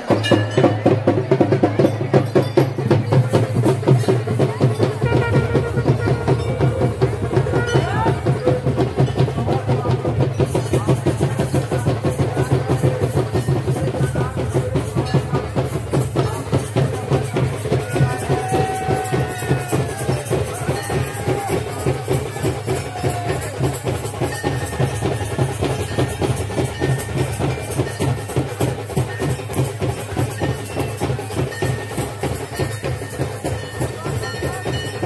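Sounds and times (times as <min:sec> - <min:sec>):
loud fast drumming: 0:00.0 - 0:35.0.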